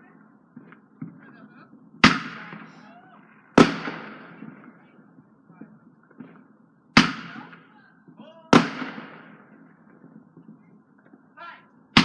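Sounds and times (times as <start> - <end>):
faint scattered pops: 0.5 - 11.3.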